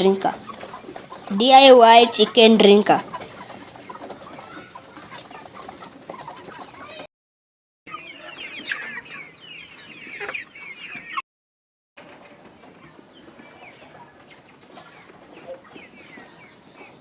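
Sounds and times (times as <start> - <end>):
chickens clucking and chirping: 0.0 - 7.1, 7.9 - 11.2, 12.0 - 17.0.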